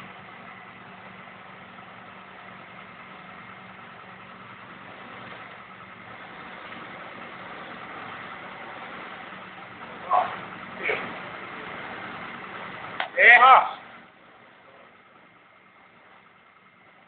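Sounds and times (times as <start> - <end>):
conveyor machinery hum: 0.0 - 17.0.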